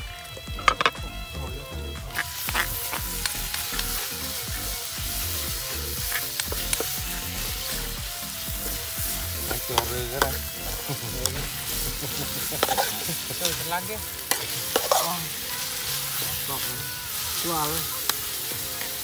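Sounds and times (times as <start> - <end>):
food sizzling in wok: 0.0 - 19.0
spatula scraping metal wok: 2.1 - 19.0.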